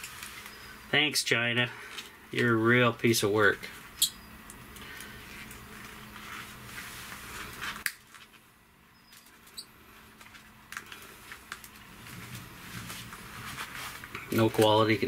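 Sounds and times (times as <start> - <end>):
gloved hands rustling cable: 0.0 - 0.8, 1.8 - 2.6, 3.7 - 15.0.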